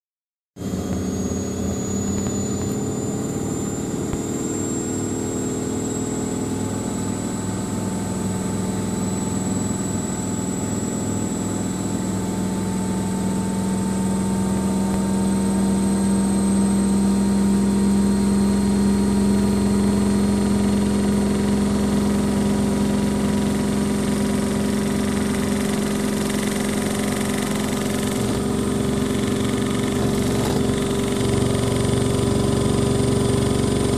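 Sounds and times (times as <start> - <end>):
motor whine rising in pitch: 0.6 - 33.9.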